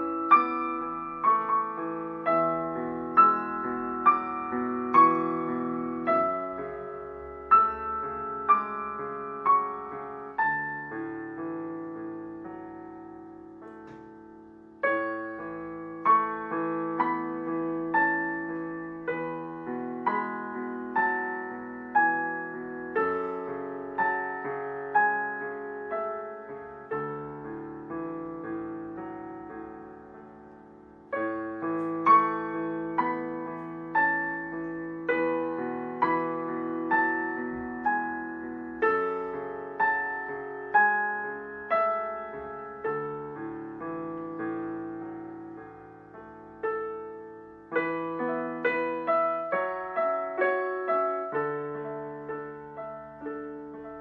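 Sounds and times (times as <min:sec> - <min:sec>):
slow gentle piano piece: 0:00.0 - 0:54.0.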